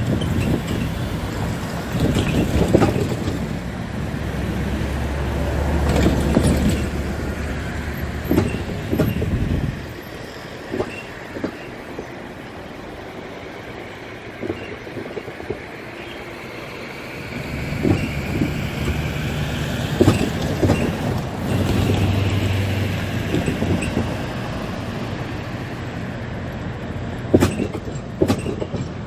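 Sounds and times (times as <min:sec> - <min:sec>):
train wheel clunks and clacks: 0:00.0 - 0:25.3, 0:26.5 - 0:29.0
freight train rumble: 0:00.0 - 0:29.0.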